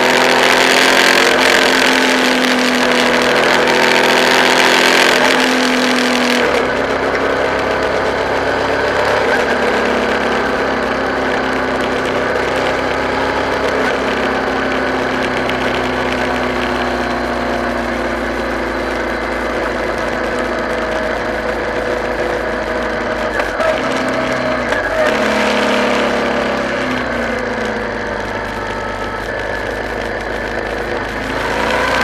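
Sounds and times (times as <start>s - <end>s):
road and wind noise: 0.0s - 32.0s
vehicle engine running: 0.0s - 32.0s.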